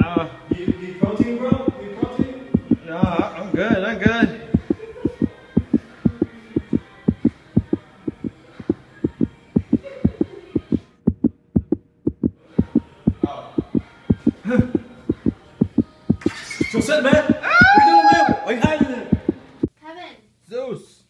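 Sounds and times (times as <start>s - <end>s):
rapid heartbeat thumps: 0.0s - 19.7s.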